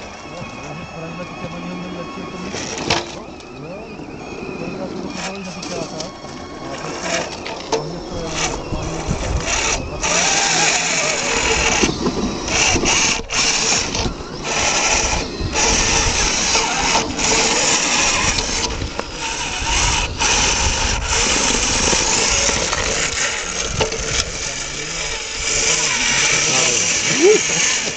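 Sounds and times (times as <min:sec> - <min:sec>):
electric motor and gearbox whirring: 0:00.0 - 0:27.9.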